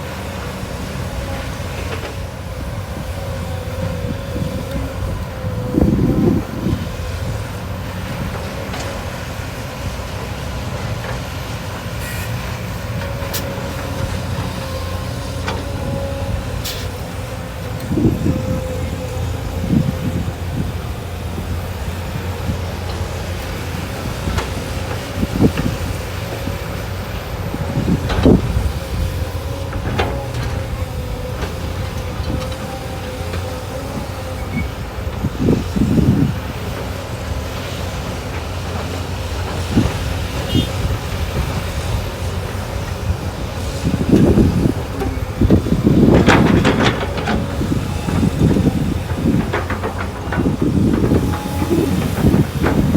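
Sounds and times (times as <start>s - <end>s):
excavator diesel engine whining: 0.0s - 52.9s.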